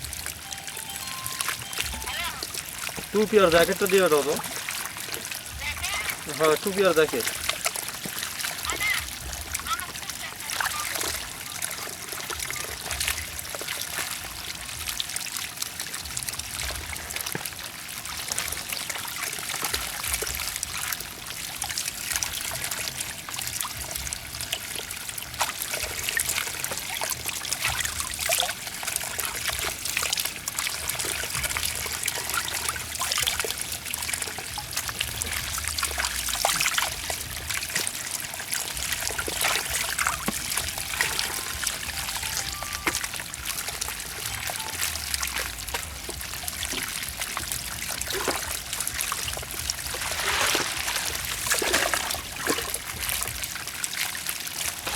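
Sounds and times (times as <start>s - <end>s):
water trickling and splashing: 0.0s - 54.9s.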